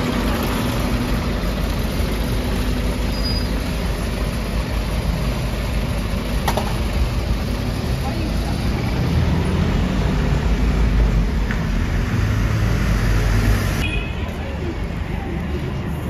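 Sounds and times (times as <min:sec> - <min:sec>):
bus engine pulling away: 0:00.0 - 0:13.8
street traffic: 0:00.0 - 0:16.0.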